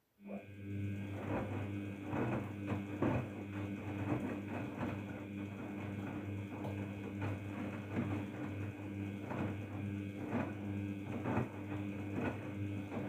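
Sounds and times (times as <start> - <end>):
washing machine motor hum: 0.3 - 13.0.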